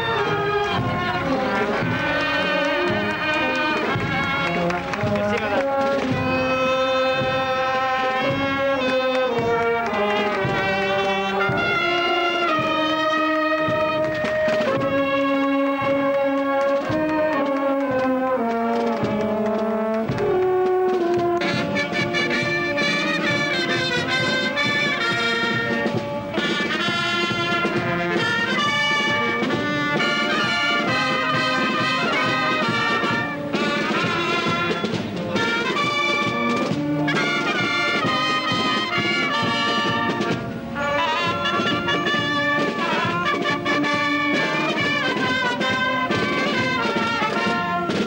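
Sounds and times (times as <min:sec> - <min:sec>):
brass band playing: 0:00.0 - 0:48.0.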